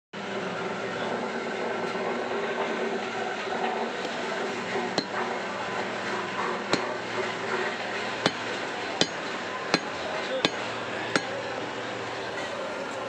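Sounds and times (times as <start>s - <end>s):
steady background noise: 0.2s - 13.0s.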